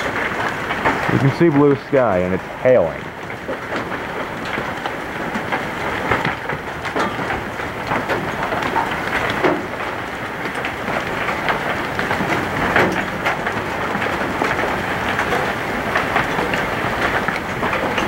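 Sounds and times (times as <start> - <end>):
hailstones ticking: 0.0 - 18.0
rain pattering: 0.0 - 18.0.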